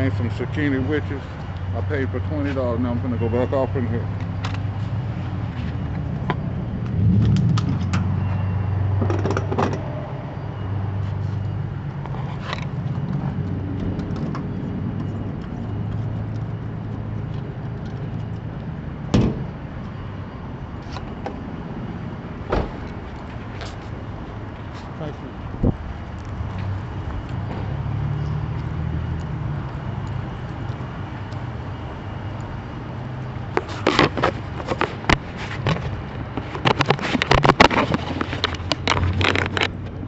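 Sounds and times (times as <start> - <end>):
low engine hum: 0.0 - 40.0.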